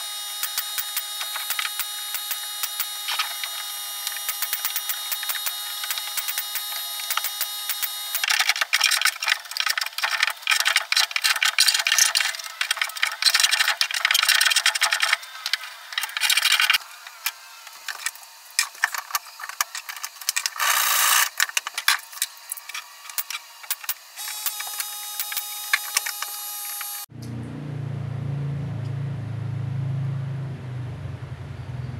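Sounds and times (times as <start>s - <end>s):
small motor humming: 0.0s - 27.1s.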